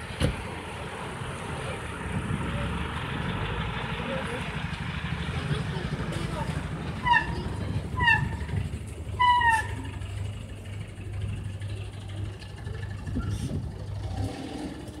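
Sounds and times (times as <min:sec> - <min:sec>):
street traffic: 0:00.0 - 0:15.0
vehicle engine humming: 0:00.0 - 0:15.0.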